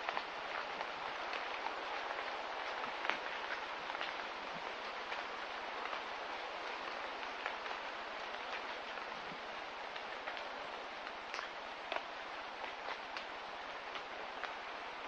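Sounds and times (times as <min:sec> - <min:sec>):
light drip ticks: 0:00.0 - 0:14.7
steady rain hiss: 0:00.0 - 0:15.0.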